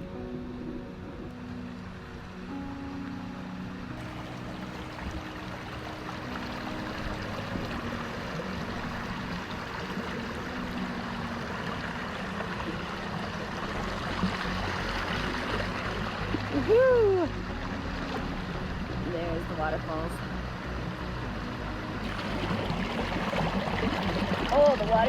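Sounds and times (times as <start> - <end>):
soft background music: 0.0 - 25.0
rushing water of waterfall: 3.9 - 25.0.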